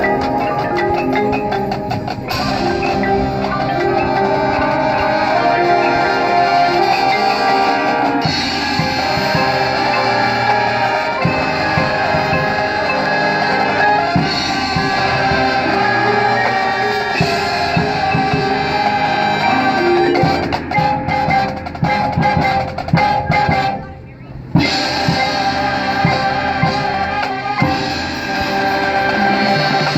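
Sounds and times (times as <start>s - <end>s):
marching band playing: 0.0s - 29.9s.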